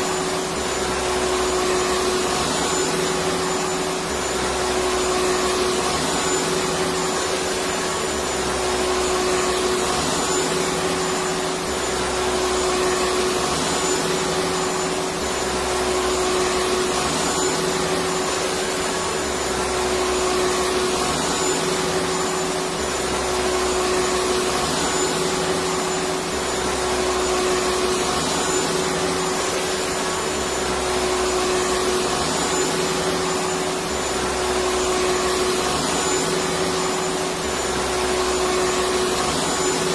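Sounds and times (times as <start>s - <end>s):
vacuum cleaner motor humming: 0.0s - 39.9s.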